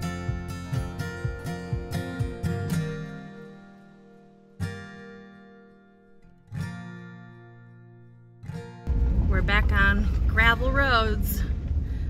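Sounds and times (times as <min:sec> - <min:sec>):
acoustic guitar strummed chords: 0:00.0 - 0:09.7.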